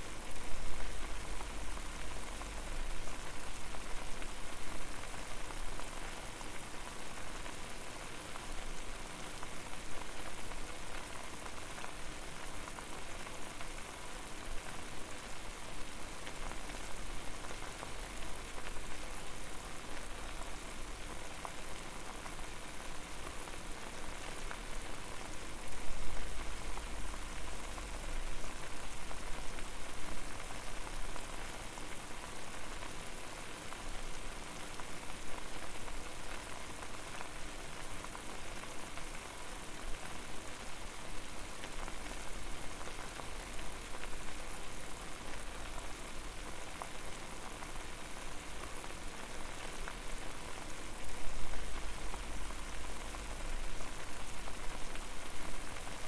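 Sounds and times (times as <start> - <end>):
water boiling hard: 0.1 - 56.0.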